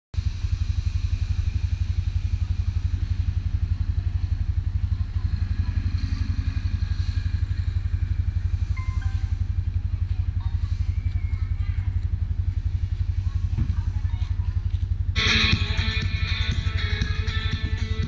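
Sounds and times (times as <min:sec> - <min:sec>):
scooter engine idling: 0:00.2 - 0:18.0.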